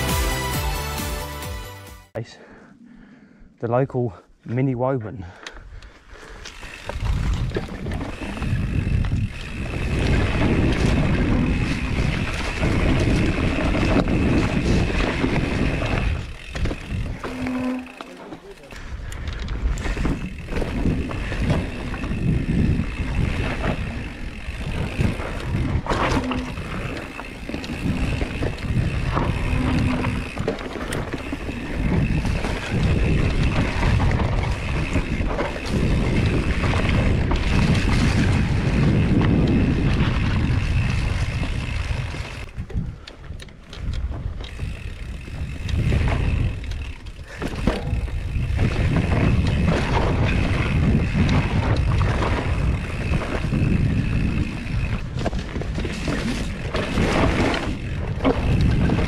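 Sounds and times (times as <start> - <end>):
wind buffeting microphone: 5.6 - 17.6, 18.7 - 59.0
bike tyres rattling over dirt: 5.6 - 59.0.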